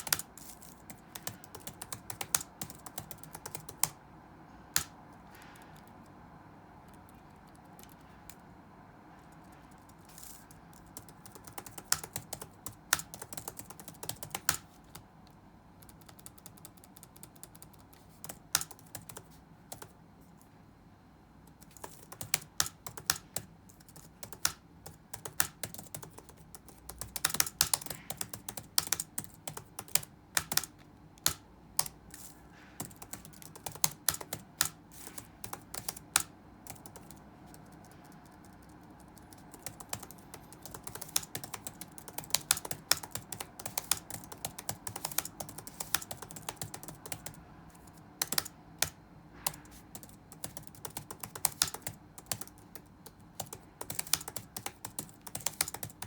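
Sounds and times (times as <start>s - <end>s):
keyboard typing: 0.0s - 4.0s, 4.7s - 6.2s, 6.8s - 8.5s, 9.2s - 20.0s, 21.5s - 56.0s
faint room hum: 0.0s - 56.0s.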